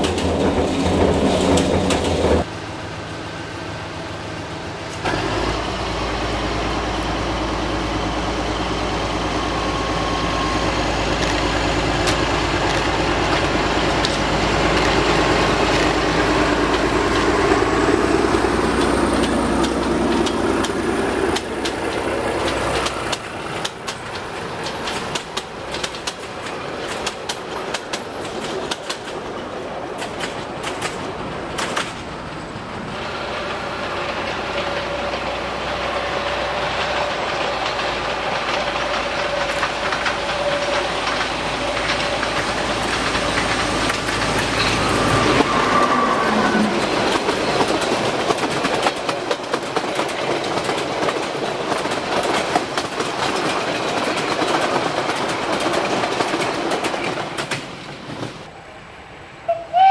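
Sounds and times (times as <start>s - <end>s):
wheels clicking over rail joints: 0.0s - 2.5s, 11.1s - 45.7s, 46.3s - 58.5s
diesel locomotive engine hum: 0.0s - 59.9s
diesel locomotive running hard: 0.0s - 59.9s.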